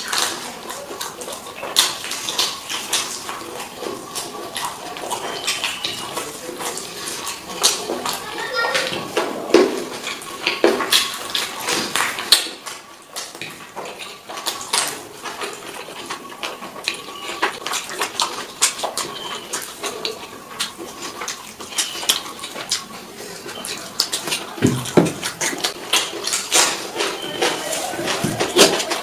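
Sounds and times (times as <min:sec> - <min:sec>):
person chewing and sucking: 0:00.0 - 0:29.0.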